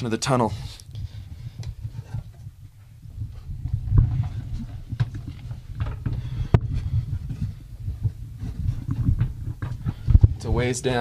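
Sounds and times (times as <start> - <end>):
steady low rumble: 0.0 - 11.0
person climbing down wooden ladder: 0.6 - 10.7.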